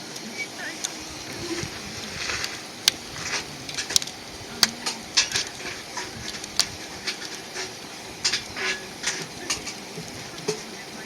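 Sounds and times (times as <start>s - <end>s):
faint steady hiss: 0.0s - 11.0s
wood fire crackling: 0.0s - 11.0s.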